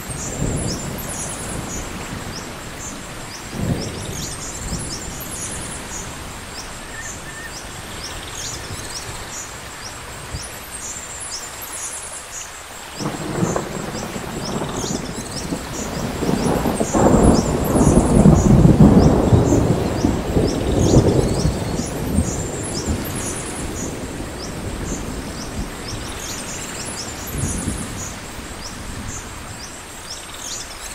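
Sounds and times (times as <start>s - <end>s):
thunder rumble: 0.0s - 10.4s, 13.0s - 29.8s
steady rain: 0.0s - 30.9s.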